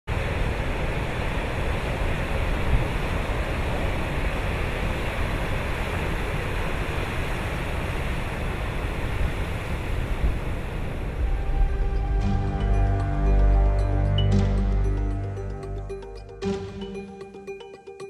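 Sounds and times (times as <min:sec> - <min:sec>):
ocean surf breaking: 0:00.1 - 0:17.2.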